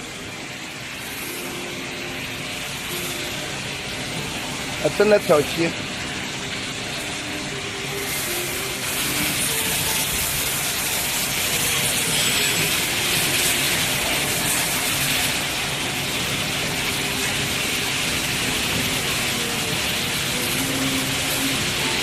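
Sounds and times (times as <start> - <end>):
factory machinery din: 0.0 - 22.0.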